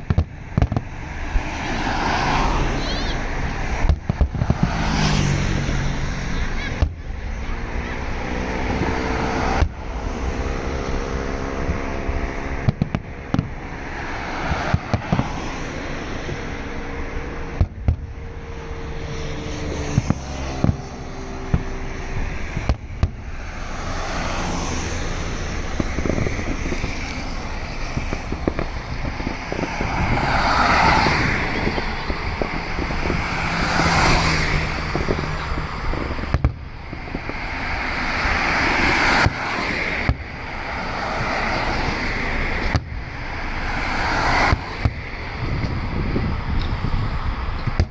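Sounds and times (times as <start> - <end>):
background rumble: 0.0 - 47.9
fireworks bangs: 0.0 - 47.9.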